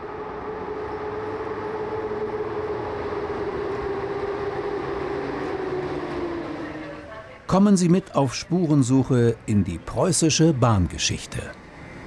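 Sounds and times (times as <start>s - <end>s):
electric train passing with whine: 0.0s - 12.0s.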